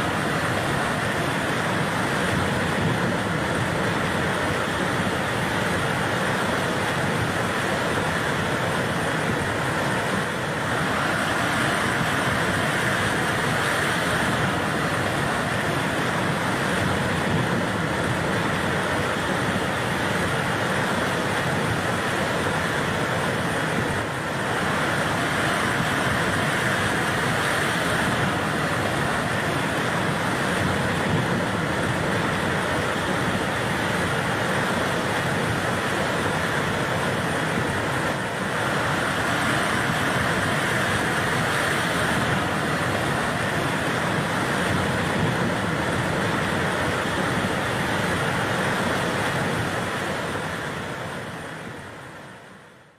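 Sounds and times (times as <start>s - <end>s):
floodwater rushing: 0.0s - 52.8s.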